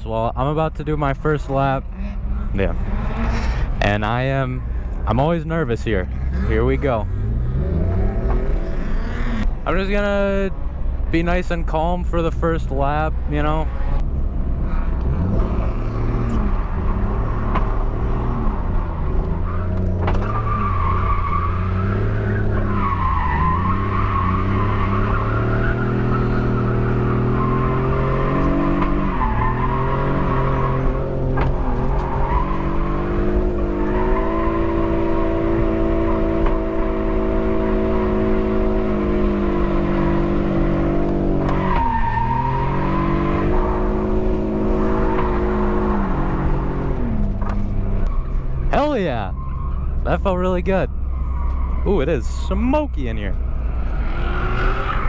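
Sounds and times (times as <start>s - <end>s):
car engine revving: 0.0s - 55.0s
tires squealing: 0.4s - 10.3s, 11.7s - 55.0s.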